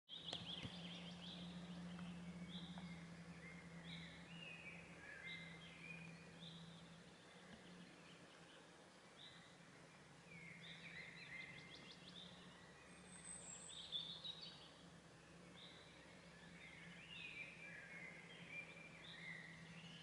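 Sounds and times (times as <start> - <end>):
birds chirping: 0.1 - 20.0
low hum: 0.1 - 20.0.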